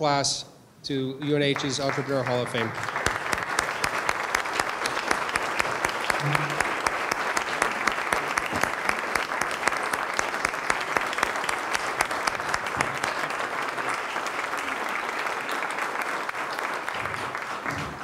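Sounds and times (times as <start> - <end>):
audience applause: 1.5 - 18.0.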